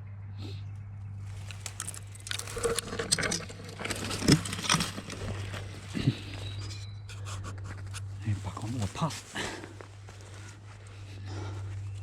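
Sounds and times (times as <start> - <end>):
steady low hum: 0.0 - 12.0
twigs and leaves crackling: 1.2 - 12.0.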